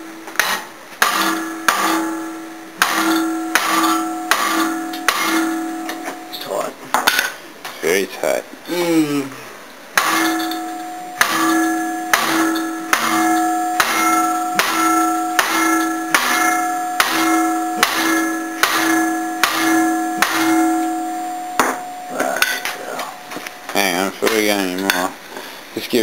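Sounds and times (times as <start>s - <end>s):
hammer striking ringing steel bar: 0.3s - 7.3s, 10.0s - 25.2s.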